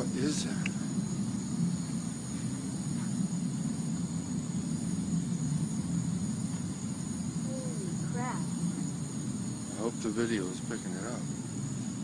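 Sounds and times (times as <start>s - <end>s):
high insect trill: 0.0s - 12.0s
low droning hum: 0.0s - 12.0s.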